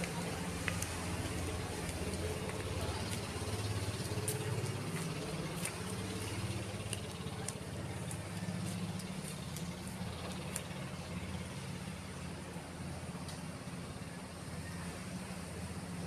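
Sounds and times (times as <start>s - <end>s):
road and wind noise: 0.0s - 16.0s
vehicle engine humming: 0.0s - 16.0s.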